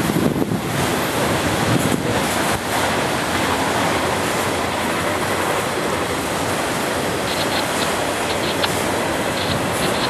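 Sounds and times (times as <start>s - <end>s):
freight train rumbling past: 0.0s - 10.0s.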